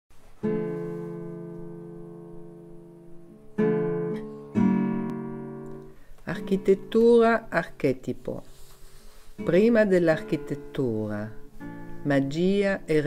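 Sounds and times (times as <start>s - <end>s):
acoustic guitar chords: 0.2s - 7.8s, 9.3s - 13.0s.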